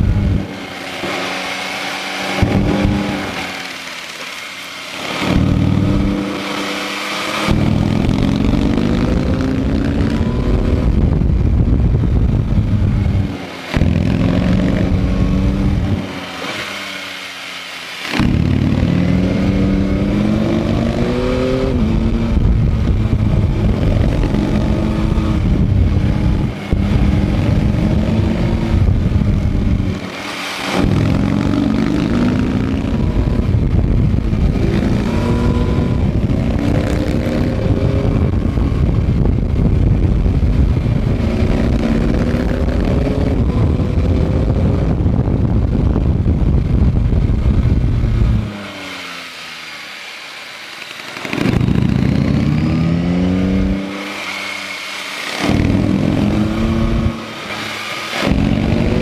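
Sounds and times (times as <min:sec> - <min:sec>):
wind noise: 0:00.0 - 0:03.7, 0:05.0 - 0:16.9, 0:18.0 - 0:49.8, 0:51.1 - 0:59.0
motorcycle engine accelerating: 0:00.0 - 0:59.0.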